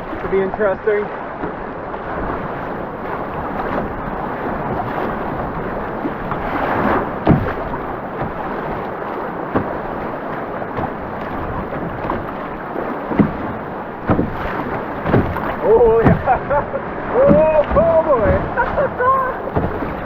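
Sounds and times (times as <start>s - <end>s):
sharp splashes: 0.0s - 20.0s
whitewater rapids rushing: 1.8s - 20.0s.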